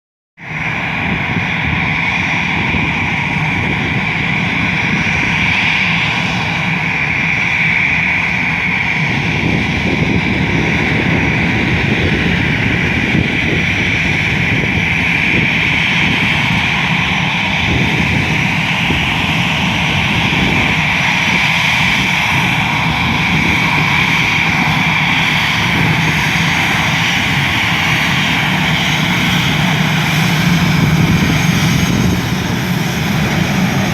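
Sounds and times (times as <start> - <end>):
jet engines running: 0.4 - 33.9.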